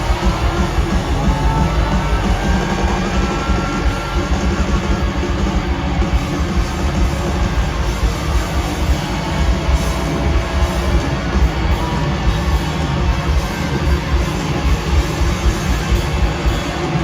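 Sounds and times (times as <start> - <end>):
held electric guitar line: 0.0 - 17.0
rock band playing: 0.0 - 17.0.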